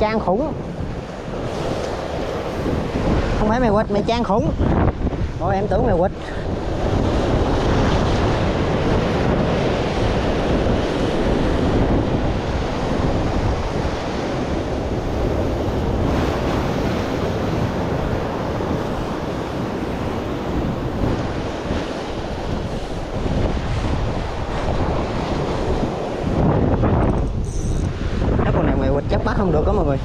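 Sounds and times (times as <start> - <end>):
sea surf washing ashore: 0.0 - 30.0
wind buffeting microphone: 0.0 - 30.0.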